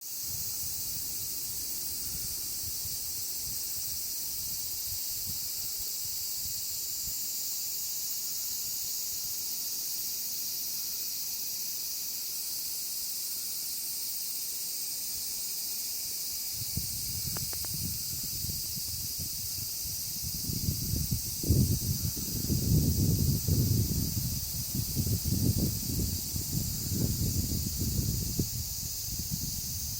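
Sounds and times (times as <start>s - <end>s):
cicadas singing: 0.0s - 29.9s.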